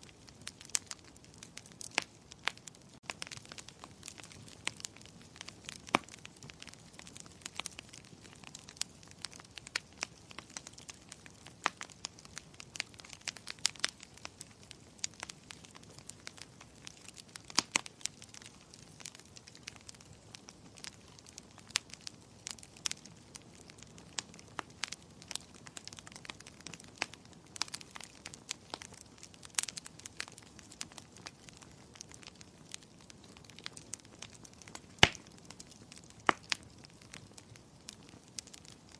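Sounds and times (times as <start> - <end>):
soft steady hiss: 0.0 - 38.9
wood fire crackling: 0.0 - 38.9.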